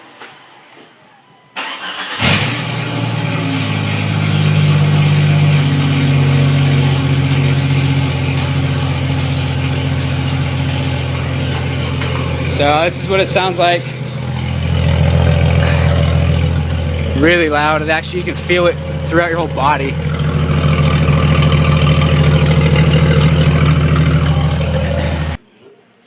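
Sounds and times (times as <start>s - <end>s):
engine cranking: 1.6s - 25.4s
engine idling loudly: 1.6s - 25.4s.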